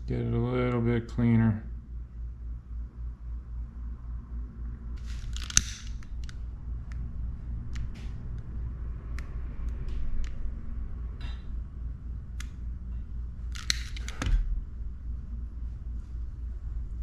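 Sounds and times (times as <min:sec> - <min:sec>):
low pulsing hum: 0:00.0 - 0:17.0.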